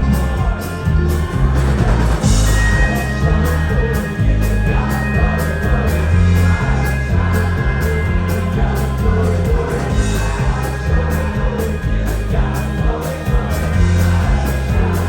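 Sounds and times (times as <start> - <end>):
heavy bass: 0.0 - 15.0
live rock band playing: 0.0 - 15.0
person singing: 0.0 - 15.0
steady drum beat: 0.0 - 15.0.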